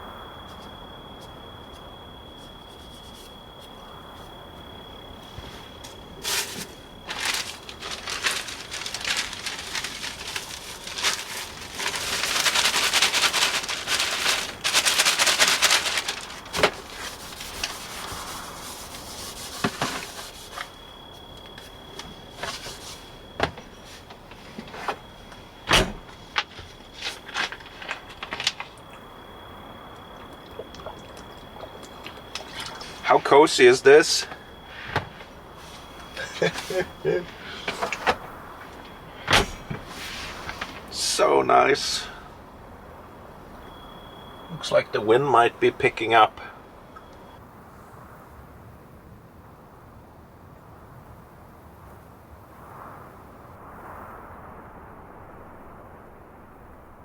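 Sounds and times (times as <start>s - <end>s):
steady hissing: 0.0s - 47.4s.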